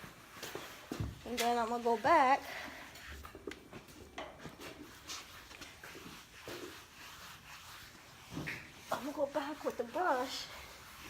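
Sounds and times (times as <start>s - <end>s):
brush scratching horse coat: 0.0s - 11.0s.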